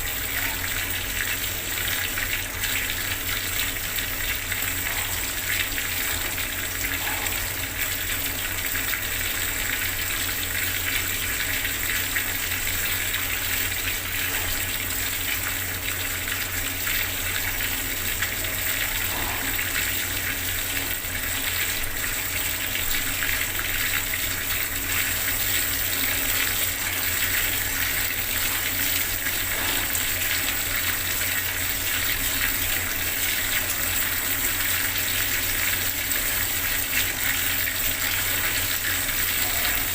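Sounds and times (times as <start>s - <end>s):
water tap running: 0.0s - 39.9s.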